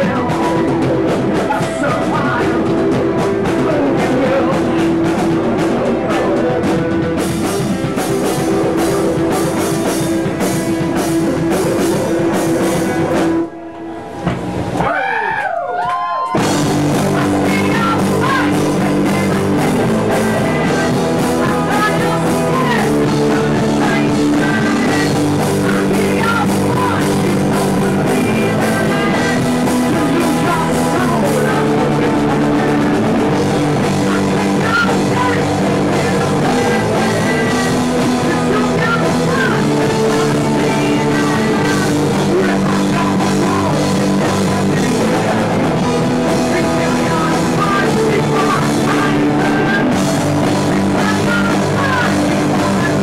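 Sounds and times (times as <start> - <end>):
loud rock music: 0.0 - 15.0, 16.3 - 53.0.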